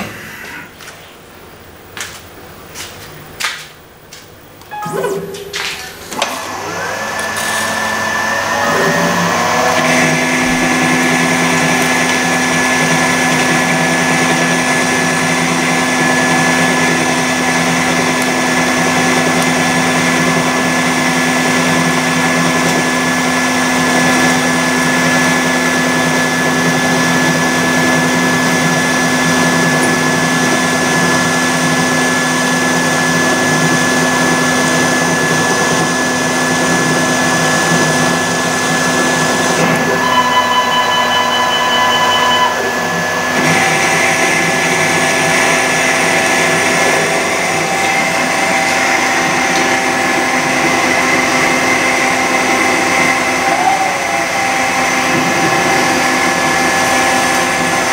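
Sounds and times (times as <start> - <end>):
lathe spindle whine: 6.1 - 57.9.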